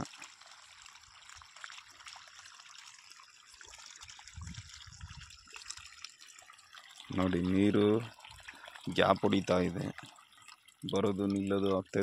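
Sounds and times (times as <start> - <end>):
water trickling from a pipe: 0.0 - 12.0.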